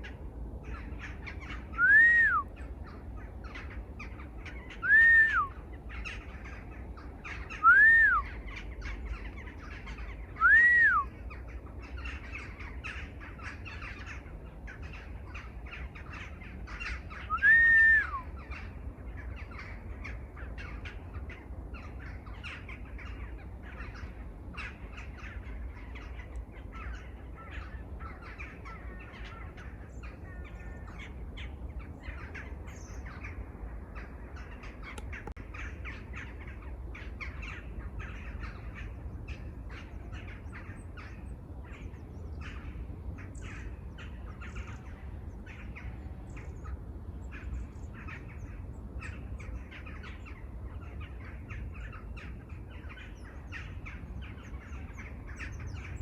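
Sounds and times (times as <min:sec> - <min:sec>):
flock of birds calling: 0:00.0 - 0:56.0
steady low rumble: 0:00.0 - 0:56.0.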